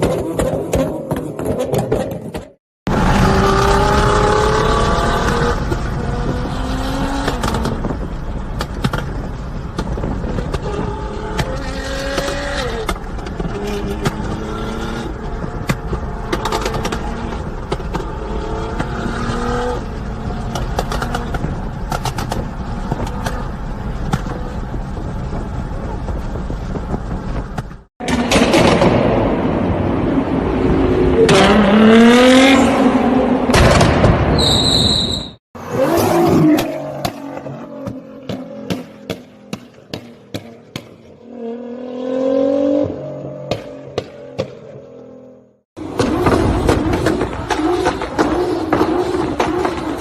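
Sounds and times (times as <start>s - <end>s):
car engine revving: 2.9s - 34.0s, 35.6s - 50.0s.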